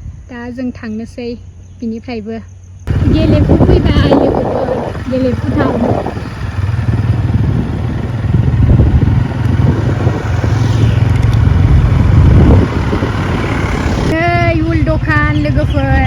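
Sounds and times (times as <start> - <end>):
vehicle engine and road noise: 2.7 - 16.0.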